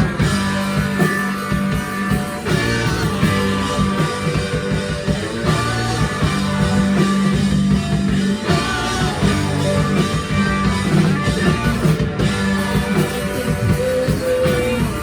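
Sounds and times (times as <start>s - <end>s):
bass notes: 0.0s - 15.0s
drums hitting: 0.0s - 15.0s
electric guitar: 0.0s - 15.0s.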